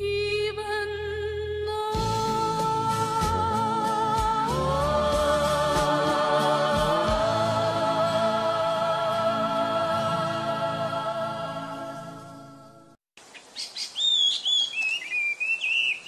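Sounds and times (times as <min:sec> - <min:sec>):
slow song with held vocal note: 0:00.0 - 0:13.0.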